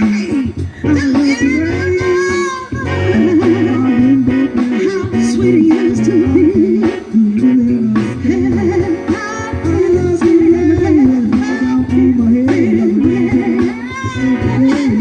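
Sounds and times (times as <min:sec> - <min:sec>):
band playing instrumental: 0:00.0 - 0:15.0
lead melody bending and sliding: 0:00.0 - 0:15.0.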